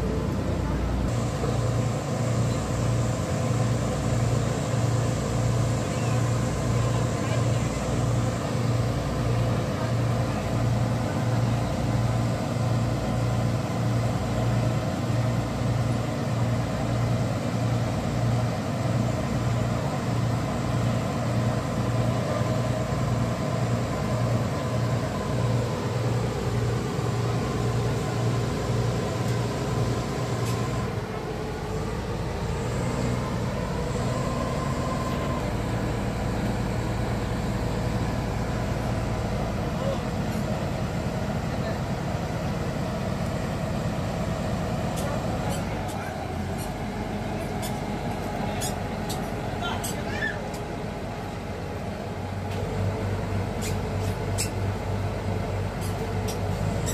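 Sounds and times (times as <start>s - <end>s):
boat engine droning and throbbing: 0.0s - 56.9s.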